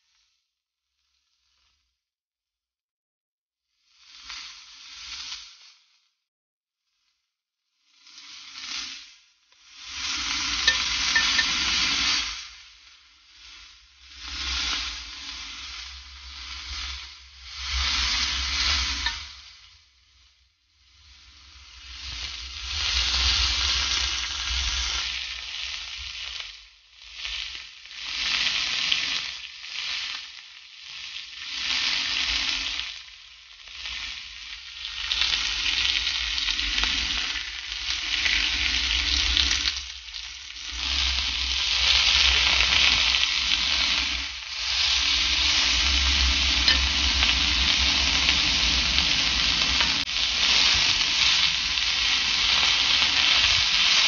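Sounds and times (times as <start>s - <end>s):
food sizzling in a hot pan: 3.7s - 6.1s, 7.0s - 54.0s.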